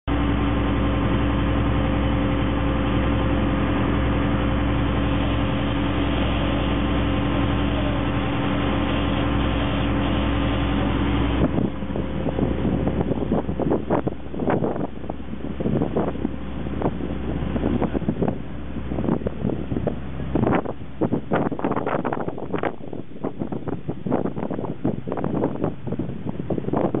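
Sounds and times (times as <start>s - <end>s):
boat engine rumbling: 0.0s - 27.0s
gusty uneven noise: 0.1s - 27.0s.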